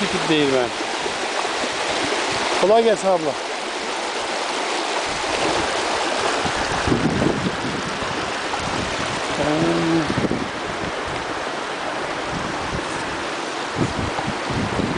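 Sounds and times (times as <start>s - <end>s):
water rushing in a channel: 0.0s - 14.9s.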